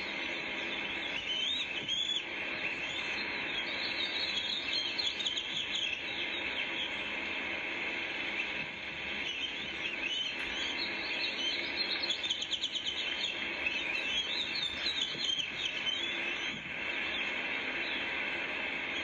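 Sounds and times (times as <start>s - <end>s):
birds chirping and trilling: 0.0s - 19.0s
steady hiss: 0.0s - 19.0s.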